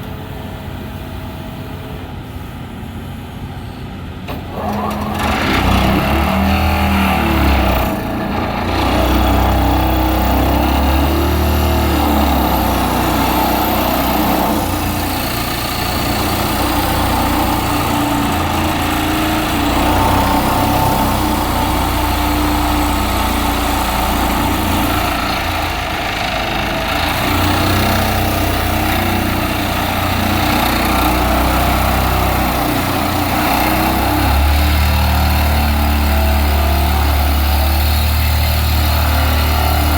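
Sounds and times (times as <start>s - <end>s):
vibratory pile driver running: 4.3s - 39.9s.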